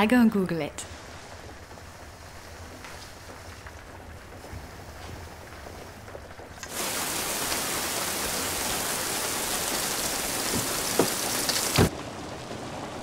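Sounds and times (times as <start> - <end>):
heavy rain: 0.8 - 13.0.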